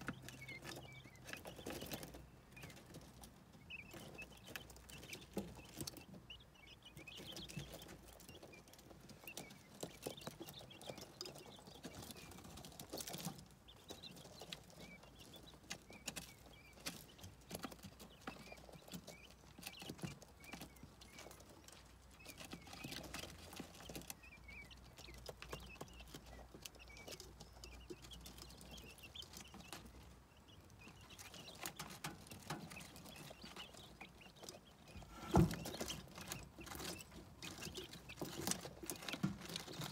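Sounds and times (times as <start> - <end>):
chicks pecking and scratching: 0.0 - 39.9
faint high chick peeps: 0.0 - 39.9.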